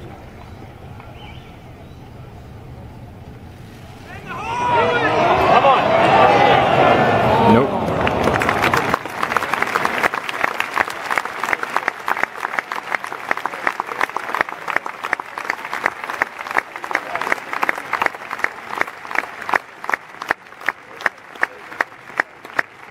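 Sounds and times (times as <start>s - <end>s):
crowd clapping: 4.1s - 22.9s.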